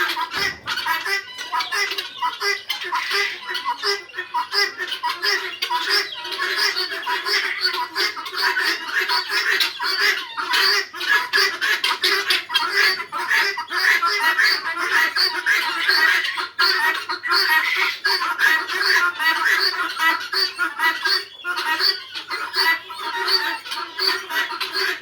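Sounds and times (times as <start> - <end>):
chickens clucking and squawking: 0.0 - 25.0.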